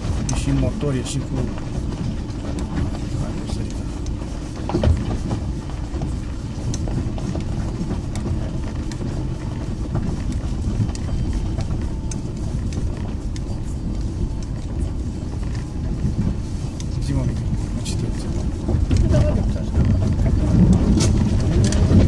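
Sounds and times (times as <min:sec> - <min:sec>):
stones clicking under wheels: 0:00.0 - 0:22.0
tyres rumbling on gravel: 0:00.0 - 0:22.0.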